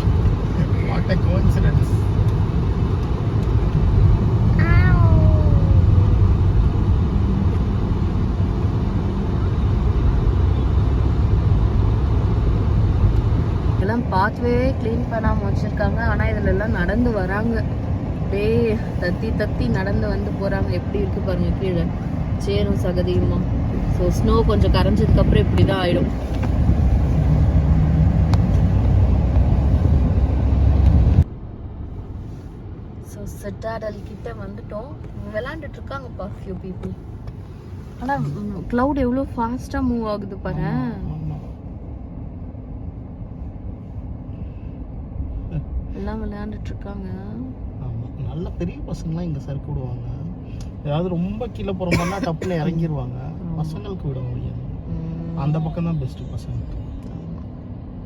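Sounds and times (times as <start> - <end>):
car rumbling on the road: 0.0 - 58.0.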